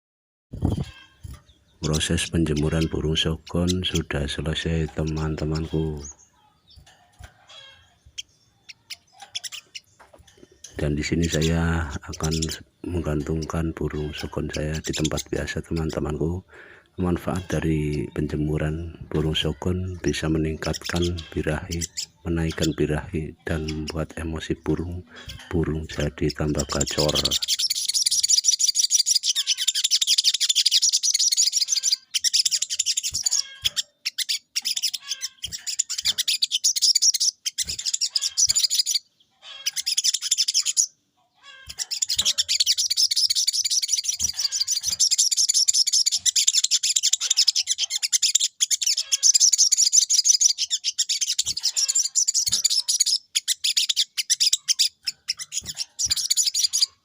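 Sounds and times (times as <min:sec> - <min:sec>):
songbird twittering: 0:00.5 - 0:57.0.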